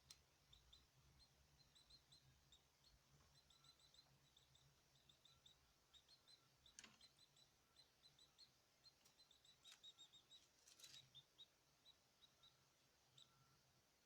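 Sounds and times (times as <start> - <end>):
caged birds chirping: 0.0 - 13.7.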